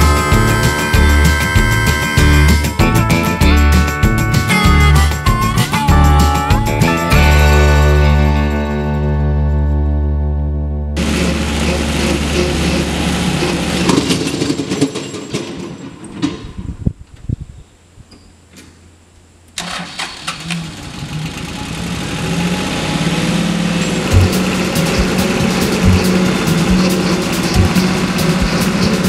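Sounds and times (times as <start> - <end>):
tractor engine running: 0.0 - 16.7, 19.4 - 29.0.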